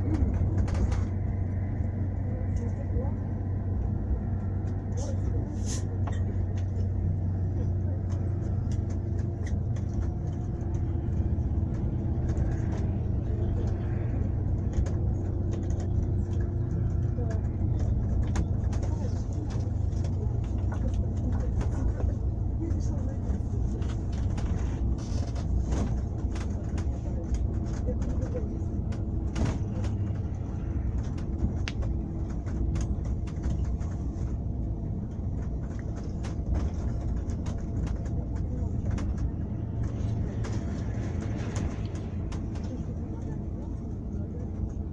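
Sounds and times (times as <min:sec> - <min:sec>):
light clicks and rattles: 0:00.0 - 0:01.6, 0:02.5 - 0:44.9
vehicle engine and road rumble: 0:00.0 - 0:44.9.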